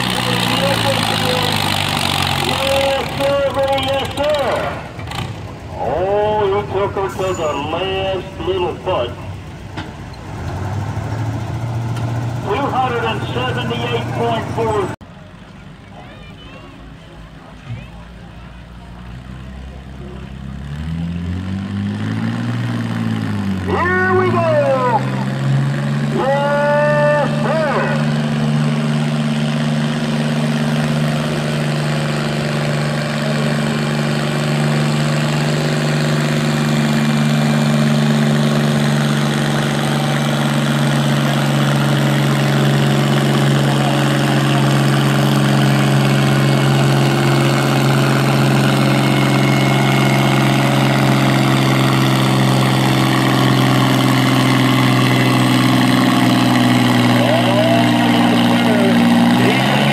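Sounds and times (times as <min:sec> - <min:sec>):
tractor engine under load: 0:00.0 - 0:15.9, 0:16.9 - 0:59.9.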